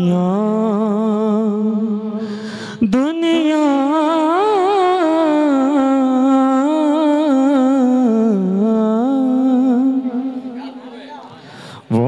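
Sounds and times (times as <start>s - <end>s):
man singing unaccompanied: 0.0s - 2.1s, 2.8s - 10.5s.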